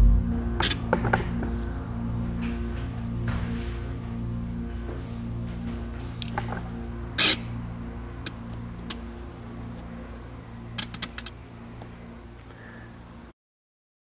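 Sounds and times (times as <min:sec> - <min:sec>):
low steady hum: 0:00.0 - 0:13.3.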